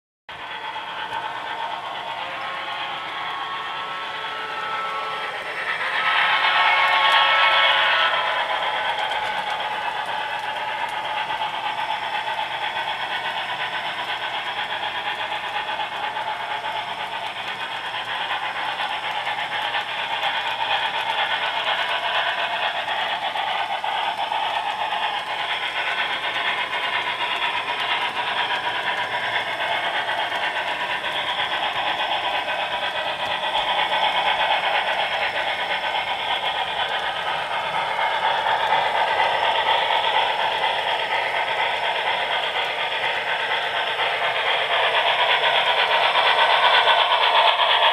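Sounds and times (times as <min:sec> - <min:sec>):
model train running rattle: 0:00.3 - 0:47.9.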